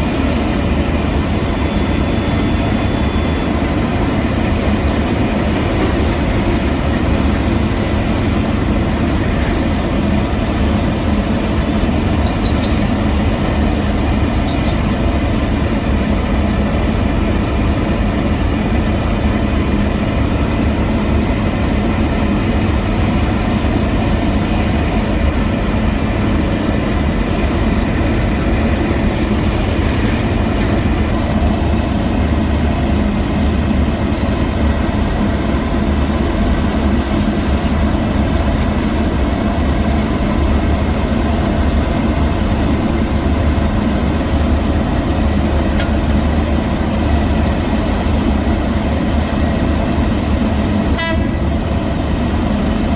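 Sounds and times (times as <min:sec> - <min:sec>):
diesel machinery engine running: 0:00.0 - 0:52.9.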